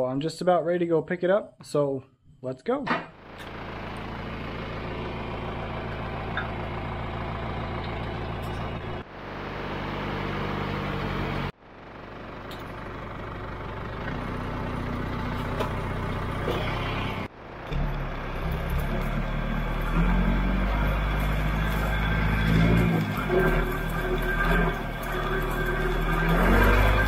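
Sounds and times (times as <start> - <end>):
tractor engine running: 3.1 - 27.0.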